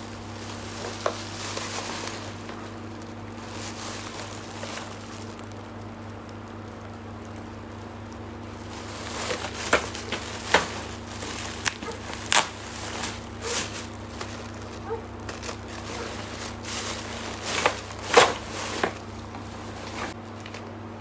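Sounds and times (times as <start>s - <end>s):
packaging crinkling and rustling: 0.0s - 20.8s.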